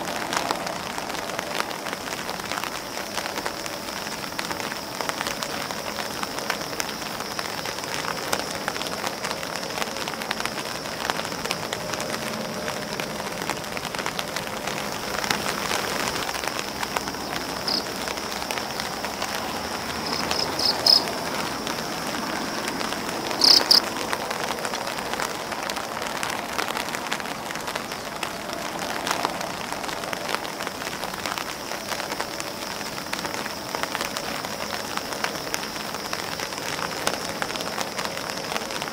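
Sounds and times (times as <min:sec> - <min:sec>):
rain pattering on an umbrella: 0:00.0 - 0:38.9.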